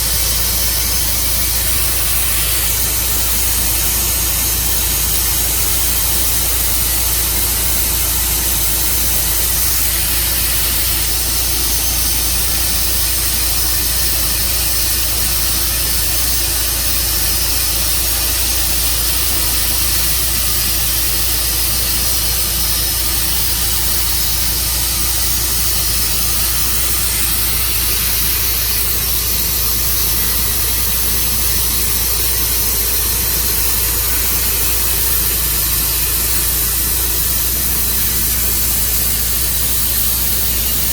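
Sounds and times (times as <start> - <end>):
saw hissing: 0.0 - 40.9
sawmill engine running: 0.0 - 40.9.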